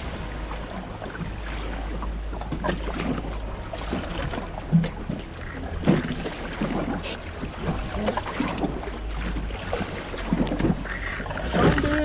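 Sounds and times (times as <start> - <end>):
steady low rumble: 0.0 - 12.0
water slapping against boat hull: 0.0 - 12.0.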